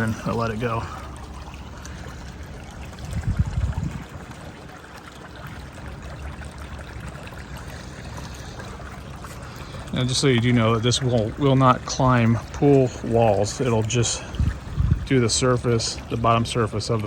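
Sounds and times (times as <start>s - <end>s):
low water rush: 0.0s - 17.0s
pool water trickling and sloshing: 0.0s - 17.0s.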